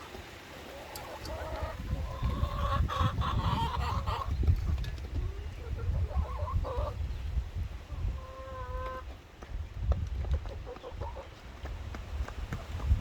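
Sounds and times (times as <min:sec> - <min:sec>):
chickens clucking: 0:00.0 - 0:09.2, 0:09.9 - 0:12.9.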